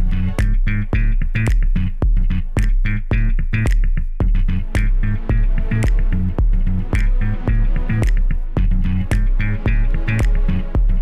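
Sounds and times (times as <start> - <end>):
funky music with drums bass guitar: 0.0 - 11.0.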